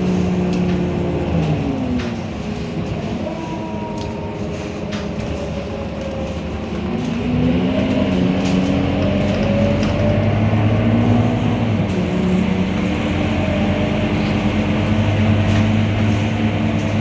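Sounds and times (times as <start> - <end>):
diesel bus engine accelerating: 0.0 - 17.0.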